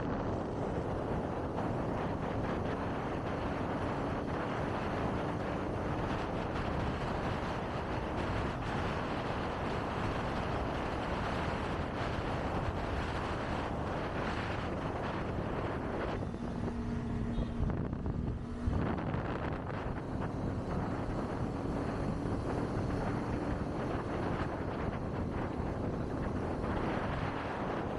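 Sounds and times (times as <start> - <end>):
motorcycle engine running: 0.0 - 27.9
wind buffeting microphone: 0.0 - 27.9.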